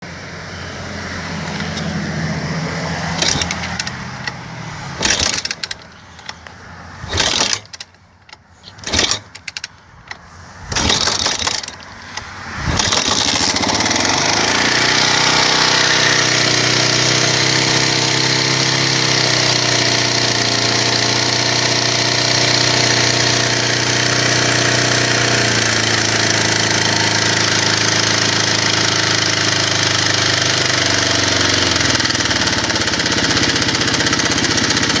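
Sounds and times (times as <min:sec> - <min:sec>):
motorcycle engine starting: 0:00.3 - 0:35.0
engine idling with ticking knock: 0:03.2 - 0:35.0.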